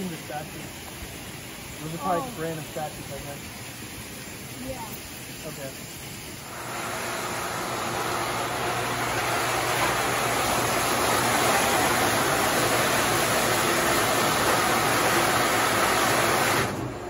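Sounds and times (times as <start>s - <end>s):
pool pump rushing: 0.0s - 17.0s.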